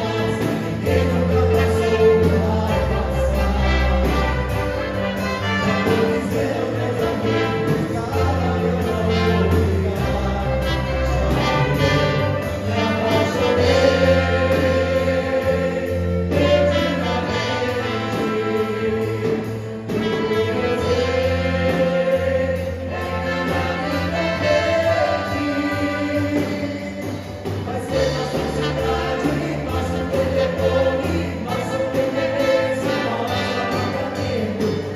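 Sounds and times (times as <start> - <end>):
choir singing: 0.0 - 34.9
keyboard: 0.0 - 34.9
trumpets: 0.0 - 34.9.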